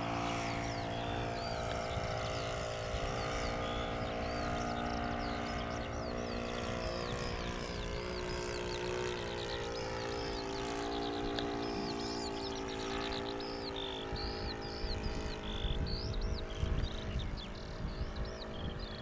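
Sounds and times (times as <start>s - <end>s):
birds chirping: 0.0s - 19.0s
model plane engine droning: 0.0s - 19.0s.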